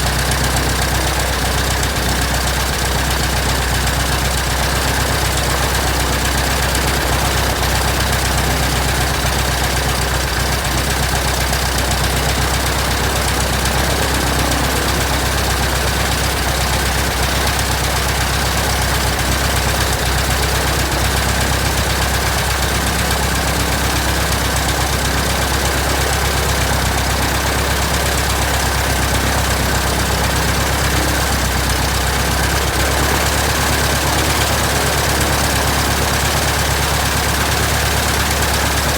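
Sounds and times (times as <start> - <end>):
aircraft engine running: 0.0 - 38.9.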